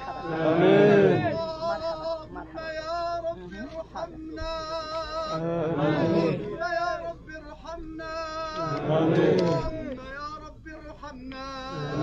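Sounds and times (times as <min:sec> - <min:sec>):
man chanting a prayer: 0:00.0 - 0:12.0.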